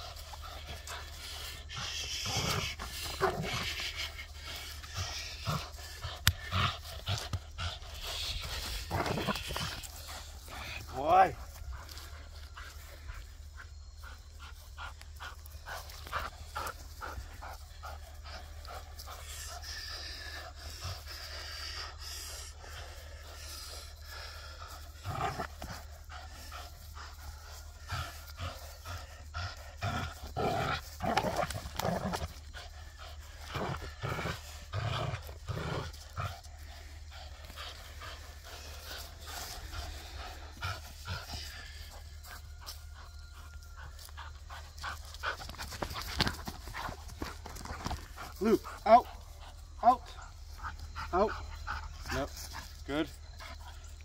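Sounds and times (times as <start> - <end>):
dog panting: 0.0 - 54.0.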